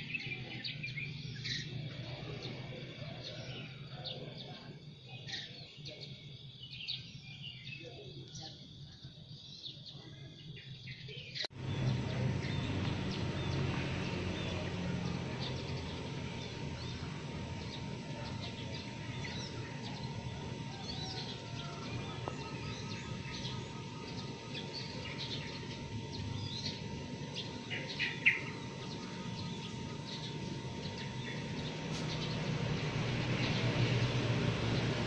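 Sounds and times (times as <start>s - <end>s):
birds chirping: 0.0s - 35.0s
steady background noise: 0.0s - 35.0s.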